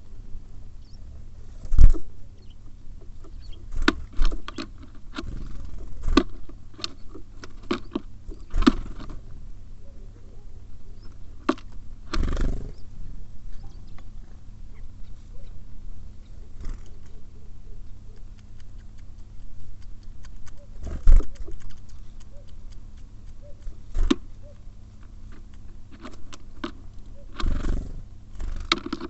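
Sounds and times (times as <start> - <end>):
birds pecking on feeder: 0.8 - 9.4, 11.0 - 12.9, 14.8 - 29.0.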